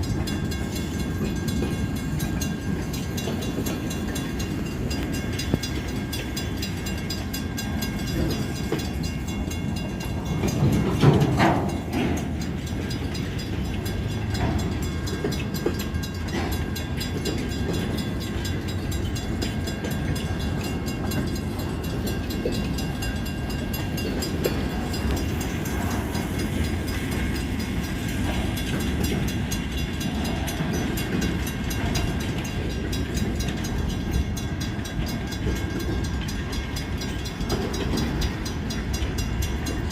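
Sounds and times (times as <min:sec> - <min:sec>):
train cars rumbling on rails: 0:00.0 - 0:39.9.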